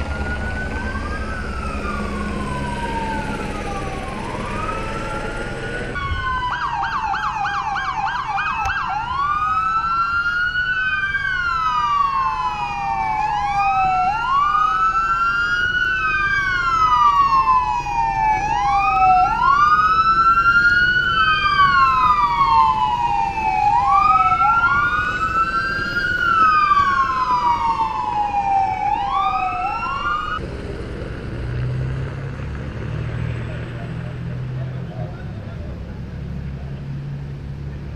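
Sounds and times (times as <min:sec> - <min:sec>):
police sirens yelping and wailing: 0:00.0 - 0:31.0.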